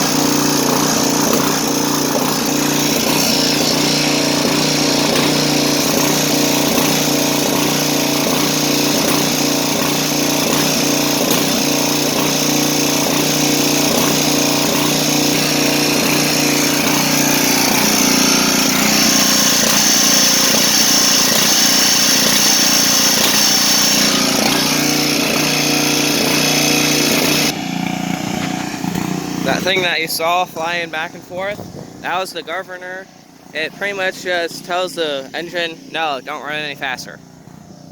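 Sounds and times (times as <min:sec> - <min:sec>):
riding mower engine running: 0:00.0 - 0:37.9.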